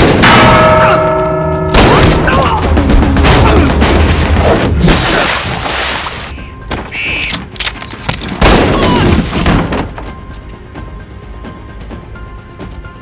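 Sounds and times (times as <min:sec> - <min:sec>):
action movie music: 0:00.0 - 0:13.0.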